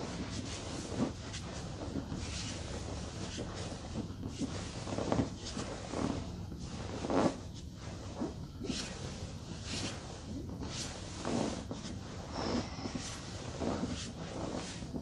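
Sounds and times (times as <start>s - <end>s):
fabric rustling: 0.0s - 15.0s.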